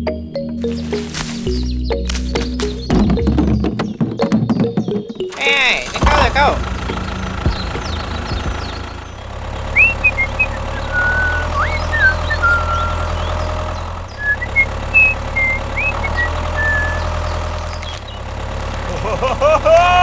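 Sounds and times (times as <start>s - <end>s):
birds chirping: 0.0s - 20.0s
small engine idling: 0.6s - 20.0s.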